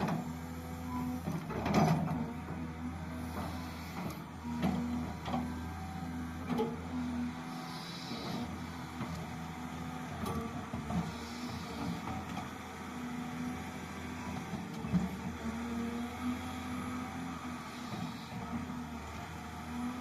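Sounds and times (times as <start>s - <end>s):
heavy machine engine running: 0.0s - 20.0s.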